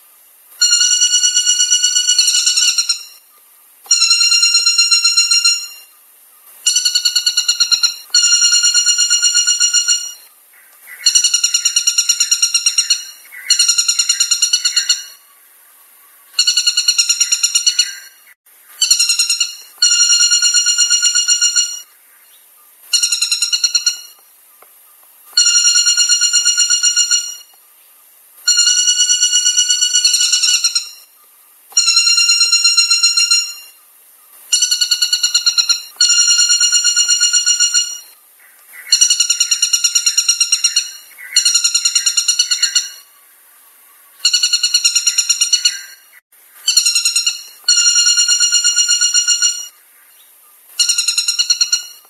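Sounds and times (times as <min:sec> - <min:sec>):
woodpecker calling: 0:00.6 - 0:06.0, 0:06.6 - 0:15.4, 0:16.0 - 0:27.7, 0:28.5 - 0:33.8, 0:34.4 - 0:43.2, 0:44.0 - 0:52.0.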